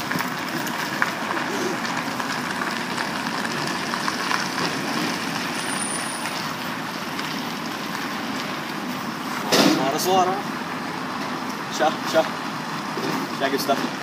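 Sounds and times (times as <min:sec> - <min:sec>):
distant road traffic hiss: 0:00.0 - 0:14.0.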